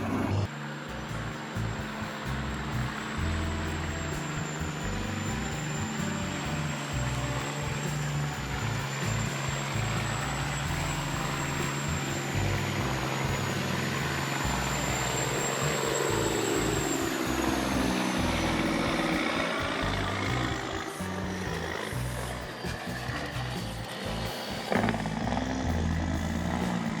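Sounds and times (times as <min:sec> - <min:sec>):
wood chipper whining: 0:00.0 - 0:27.0.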